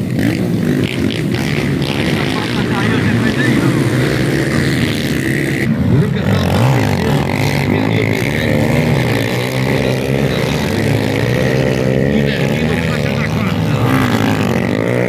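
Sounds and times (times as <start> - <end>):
dirt bikes revving and accelerating: 0.0 - 15.0.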